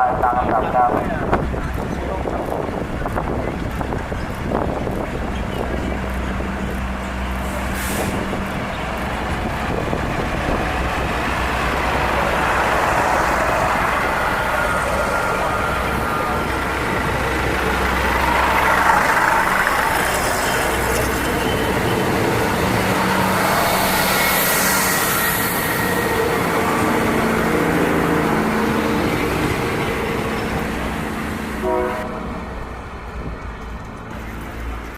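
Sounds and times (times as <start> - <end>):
train carriages rolling on rails: 0.0 - 34.9
high whining from wheels: 2.5 - 34.8.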